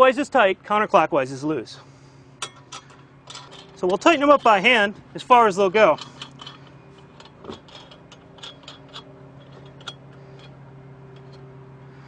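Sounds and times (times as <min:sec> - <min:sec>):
low hum: 0:01.8 - 0:12.0.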